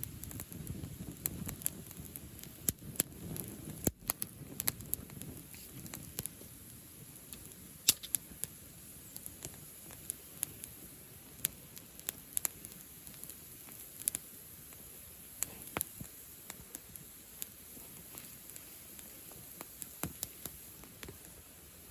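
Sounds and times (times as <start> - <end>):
bonfire crackling and popping: 0.0 - 21.9
low steady hiss: 0.0 - 21.9.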